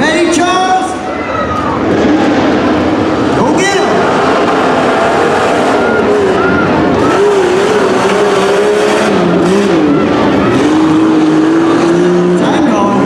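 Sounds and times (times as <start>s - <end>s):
engine revving hard: 1.7s - 13.0s.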